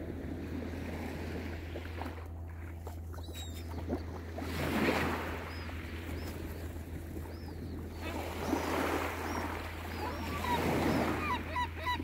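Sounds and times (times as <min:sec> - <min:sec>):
small waves lapping on beach: 0:00.0 - 0:12.0.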